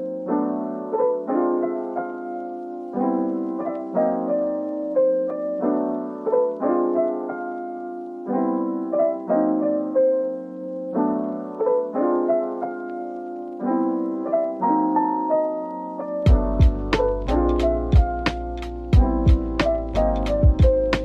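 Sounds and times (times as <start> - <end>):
soft piano melody: 0.0 - 21.0.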